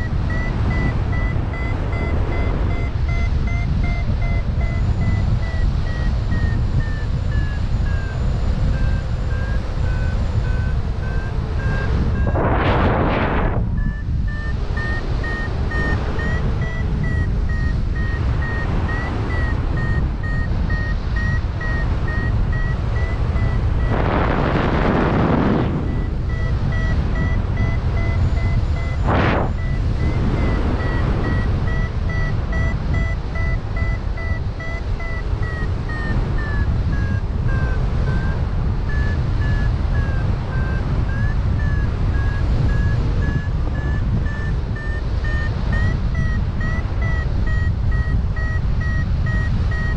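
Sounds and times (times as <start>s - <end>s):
variometer beeping high: 0.0s - 49.9s
wind rushing over microphone: 0.0s - 49.9s.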